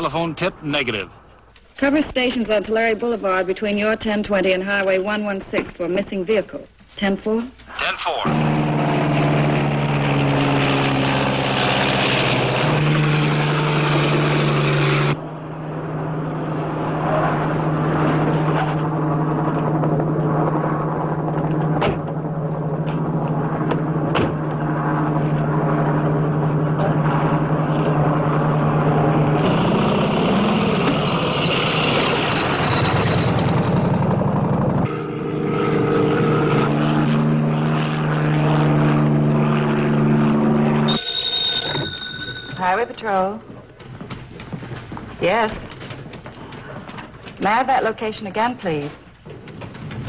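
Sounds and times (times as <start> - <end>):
engine droning: 7.7 - 50.0.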